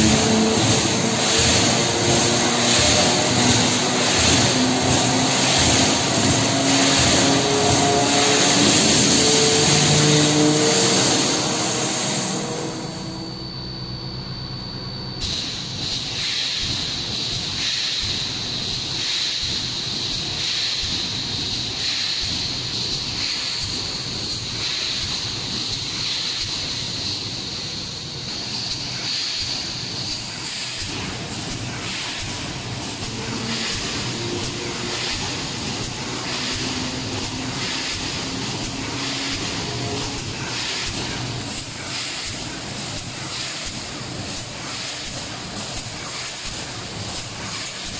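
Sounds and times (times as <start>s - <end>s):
burst of air hiss: 0.0s - 13.2s, 15.2s - 47.9s
welding machine running: 0.0s - 13.4s, 15.2s - 47.9s.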